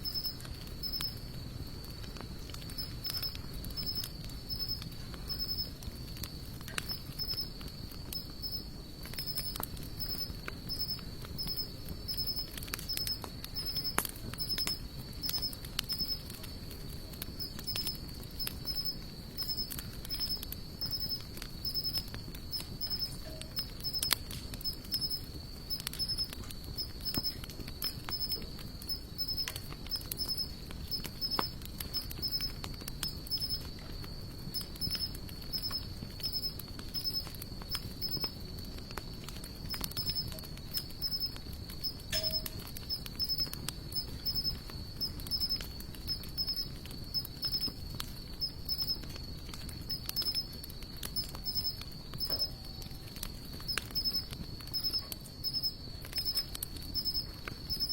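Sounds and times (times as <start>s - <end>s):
campfire logs crackling and popping: 0.0s - 57.9s
insect trill: 0.0s - 57.9s.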